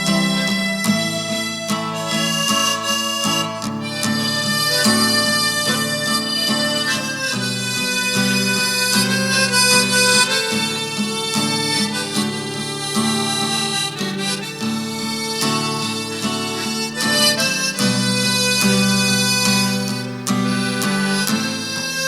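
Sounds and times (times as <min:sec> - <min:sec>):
harmonica playing gospel melody: 0:00.0 - 0:22.0.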